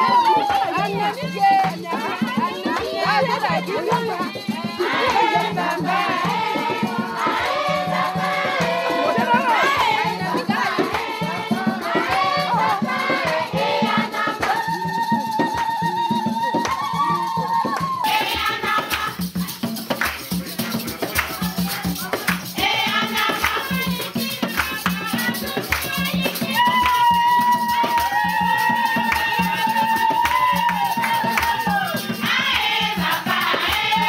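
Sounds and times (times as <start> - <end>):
shaken rattle: 0.0 - 34.0
women singing together: 0.0 - 34.0.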